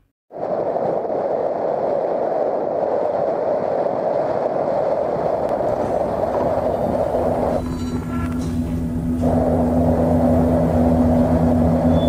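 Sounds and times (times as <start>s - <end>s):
steady rumbling noise: 0.0s - 12.0s.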